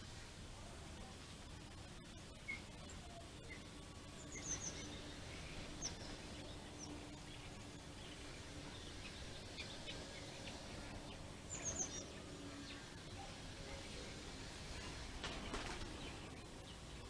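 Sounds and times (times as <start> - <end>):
birds chirping: 0.0 - 17.0
faint hiss: 0.0 - 17.0.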